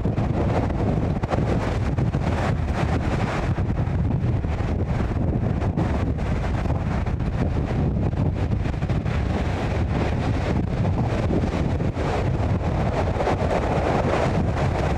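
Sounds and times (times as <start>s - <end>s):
strong wind buffeting microphone: 0.0s - 14.9s.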